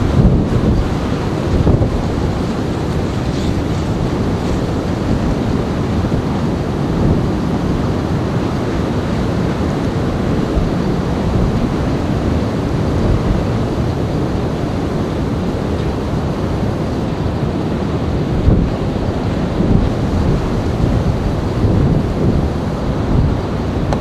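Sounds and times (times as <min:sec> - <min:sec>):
gusty wind on microphone: 0:00.0 - 0:24.0.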